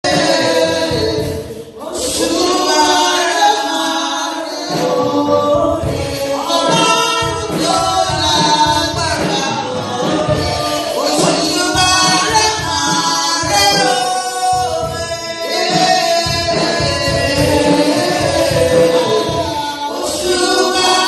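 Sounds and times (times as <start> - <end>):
choir singing gospel: 0.0 - 21.0.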